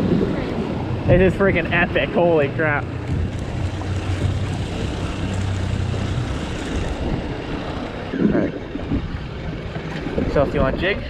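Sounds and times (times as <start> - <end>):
outboard motor humming: 0.0 - 11.0
water noise: 0.0 - 11.0
wind: 0.0 - 11.0.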